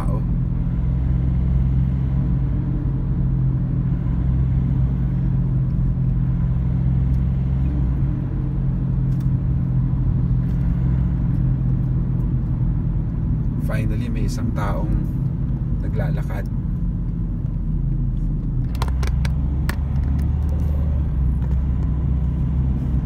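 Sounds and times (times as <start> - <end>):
car engine and tyre drone: 0.0 - 23.0.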